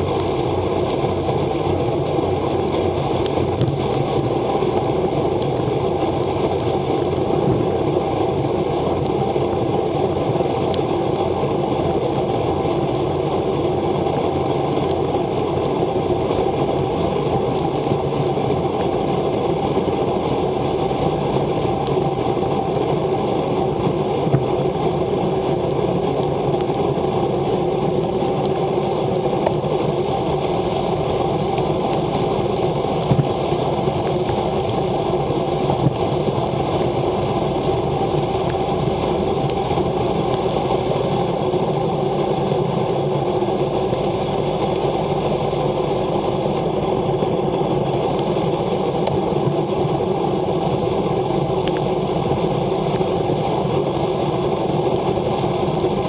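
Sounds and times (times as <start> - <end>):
wet bicycle tyres on road: 0.0 - 56.0.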